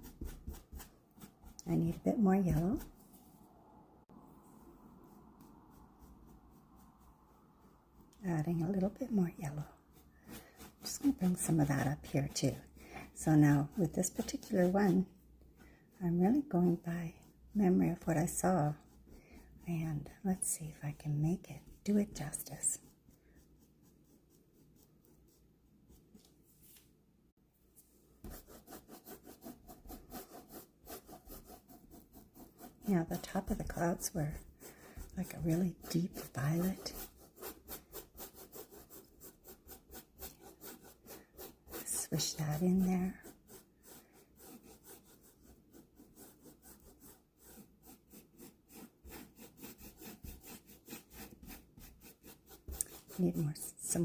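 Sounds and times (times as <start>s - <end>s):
paintbrush scrubbing on canvas: 0.0s - 3.4s, 4.4s - 26.9s, 27.8s - 54.0s.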